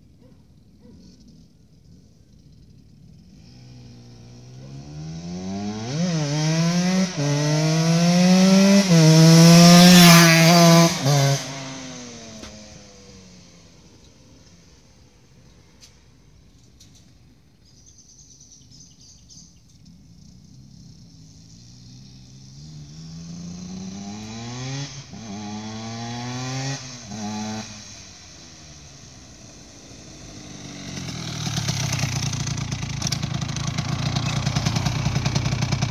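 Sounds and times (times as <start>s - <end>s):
motorcycle engine revving: 0.6s - 15.6s, 17.8s - 35.9s.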